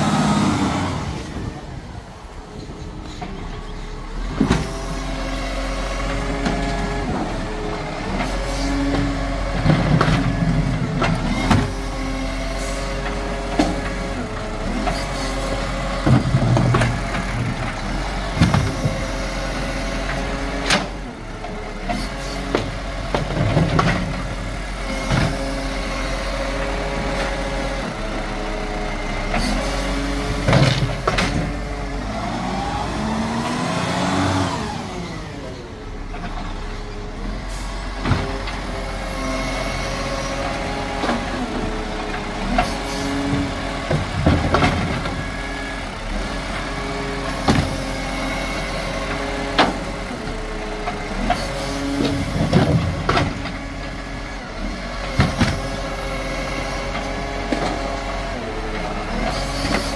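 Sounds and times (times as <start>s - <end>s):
garbage truck running: 0.0s - 59.9s.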